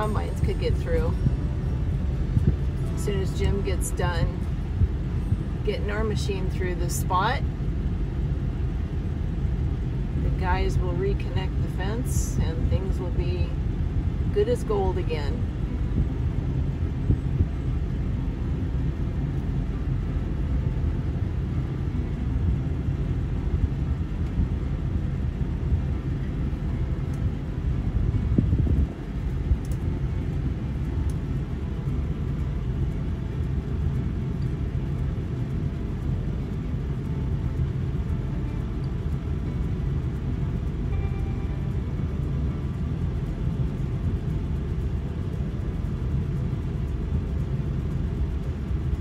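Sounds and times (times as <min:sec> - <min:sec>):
farm vehicle engines rumbling: 0:00.0 - 0:49.0.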